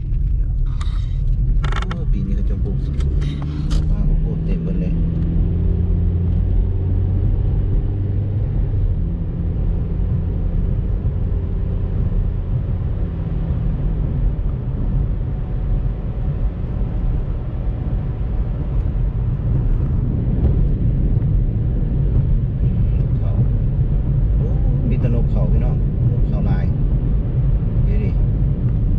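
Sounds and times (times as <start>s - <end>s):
road noise: 0.0s - 28.9s
vehicle engine rumble: 0.0s - 28.9s.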